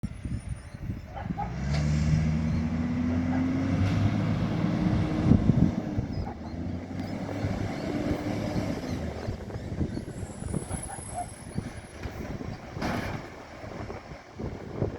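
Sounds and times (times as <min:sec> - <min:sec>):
garbage truck diesel engine pulling away: 0:00.3 - 0:14.9.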